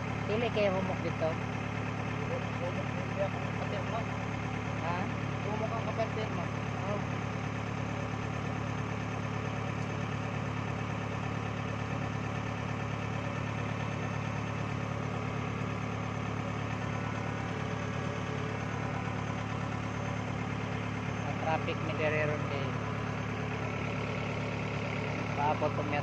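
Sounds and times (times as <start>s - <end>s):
harvester engine running: 0.0s - 26.0s.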